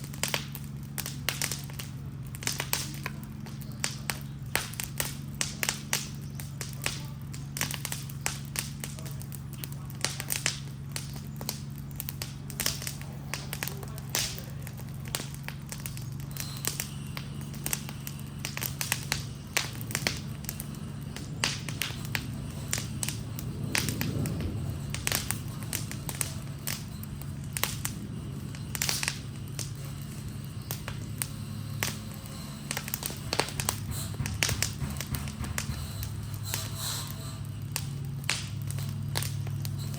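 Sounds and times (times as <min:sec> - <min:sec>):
burning wood crackling and popping: 0:00.0 - 0:39.9
steady low drone: 0:00.0 - 0:39.9.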